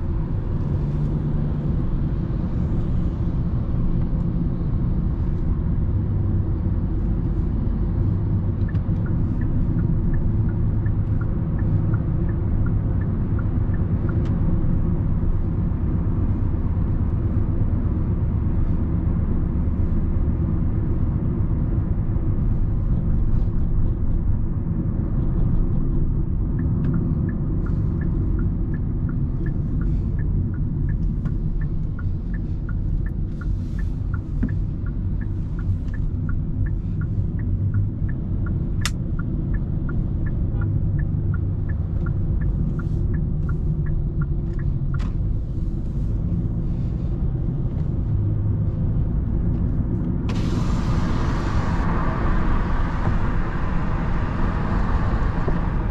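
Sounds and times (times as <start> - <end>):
road and drivetrain rumble: 0.0 - 55.9
turn signal ticking: 0.0 - 55.9.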